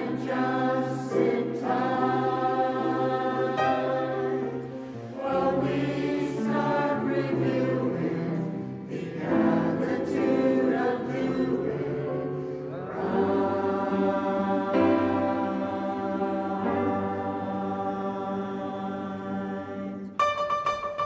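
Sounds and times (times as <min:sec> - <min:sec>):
mixed choir singing in harmony: 0:00.0 - 0:20.3.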